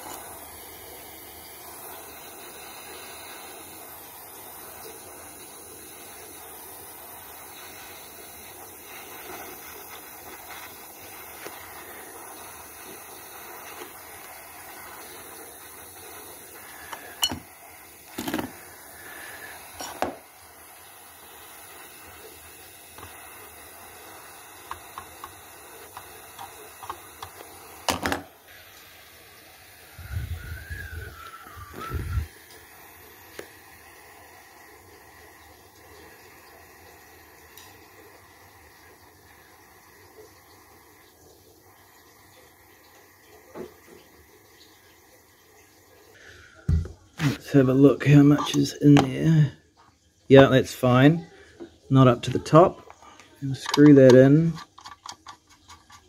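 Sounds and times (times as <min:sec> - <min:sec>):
gas torch hissing: 0:00.0 - 0:56.0.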